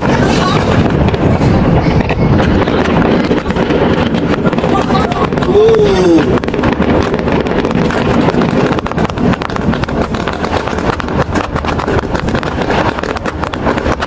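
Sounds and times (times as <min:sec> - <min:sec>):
fireworks crackling and popping: 0:00.0 - 0:14.0
low rumble: 0:00.0 - 0:14.0.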